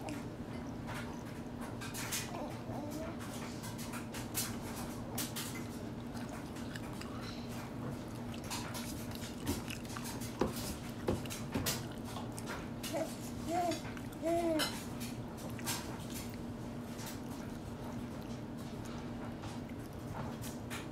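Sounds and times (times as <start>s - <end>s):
baby chewing with wet mouth clicks: 0.0s - 20.9s
steady low hum: 0.0s - 20.9s.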